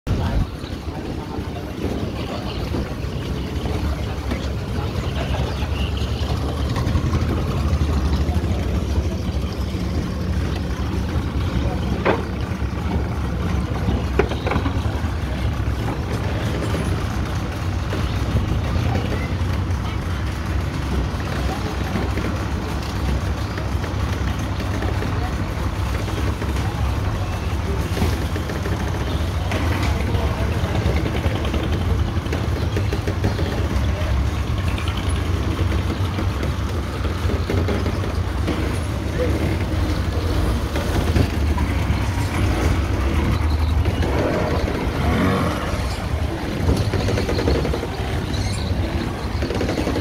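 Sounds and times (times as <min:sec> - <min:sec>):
outboard motor idling: 0:00.1 - 0:50.0.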